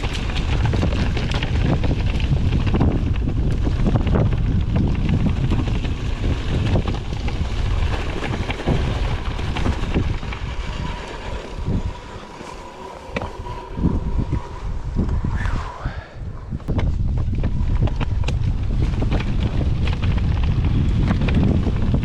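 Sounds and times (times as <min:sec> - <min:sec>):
mountain bike rattling and knocking: 0:00.0 - 0:14.4, 0:16.7 - 0:22.0
wind buffeting microphone: 0:00.0 - 0:22.0.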